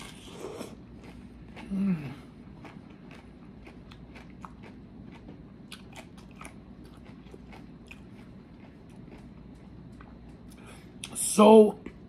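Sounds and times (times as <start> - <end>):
crunchy chewing: 0.0 - 11.2.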